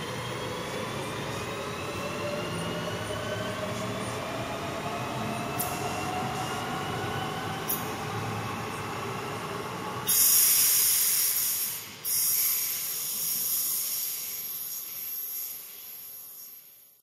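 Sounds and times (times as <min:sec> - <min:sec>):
electric train rumbling: 0:00.0 - 0:16.1.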